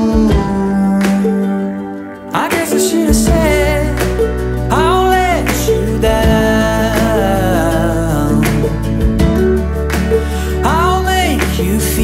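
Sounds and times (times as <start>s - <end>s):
person singing: 0.0s - 12.0s
pop song: 0.0s - 12.0s.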